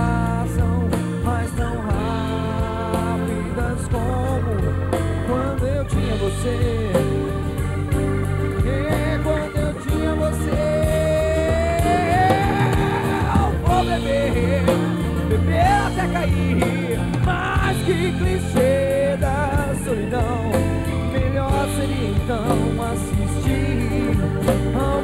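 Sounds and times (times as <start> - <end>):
acoustic rock band playing: 0.0 - 25.0
wavering lead melody: 0.0 - 25.0.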